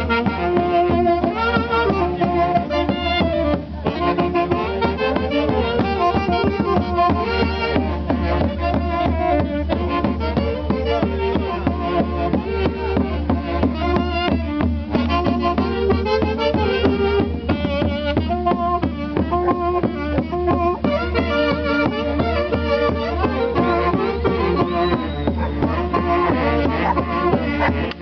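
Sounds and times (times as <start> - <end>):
band playing traditional music: 0.0 - 28.0.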